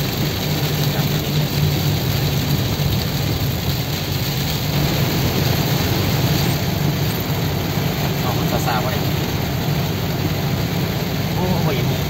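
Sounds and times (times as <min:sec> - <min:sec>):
engine low drone: 0:00.0 - 0:12.0
heavy rain on vehicle: 0:00.0 - 0:12.0
road noise: 0:00.0 - 0:12.0.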